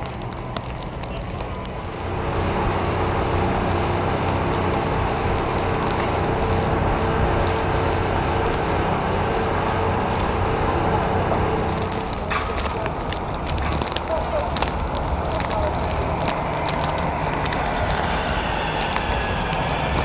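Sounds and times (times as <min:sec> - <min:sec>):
street traffic engine hum: 0:00.0 - 0:20.0.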